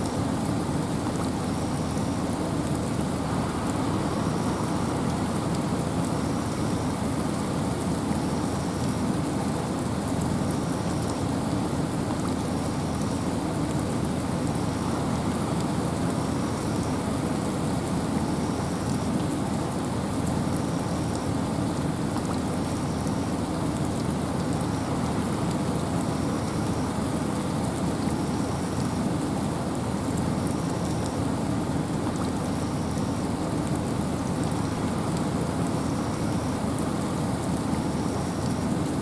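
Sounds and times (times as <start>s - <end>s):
rain hissing: 0.0s - 39.0s
wind: 0.0s - 39.0s.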